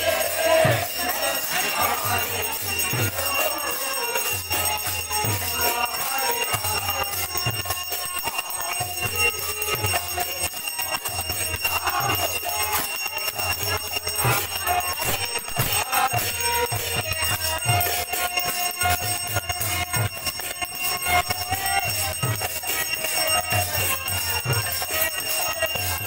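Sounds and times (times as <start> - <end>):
drum beating steady rhythm: 0.0 - 26.0
hand bell and cymbals ringing: 0.0 - 26.0
harmonium: 0.0 - 26.0.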